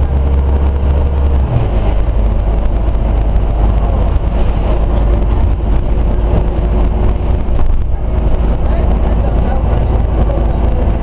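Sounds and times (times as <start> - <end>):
bus engine rumble: 0.0 - 11.0
road and rattle noise: 0.0 - 11.0.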